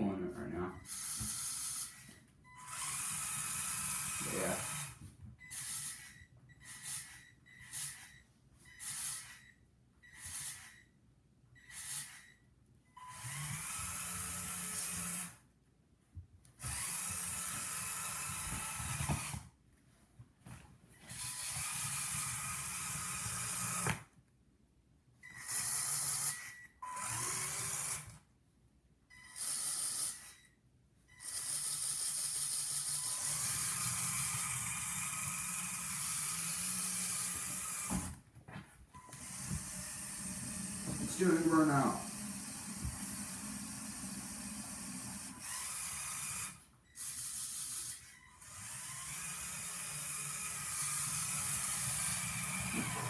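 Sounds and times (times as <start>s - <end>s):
toy motor and gears whining: 0.8s - 11.0s, 11.6s - 15.4s, 16.6s - 19.5s, 21.0s - 24.1s, 25.2s - 28.2s, 29.1s - 38.2s, 39.0s - 53.0s.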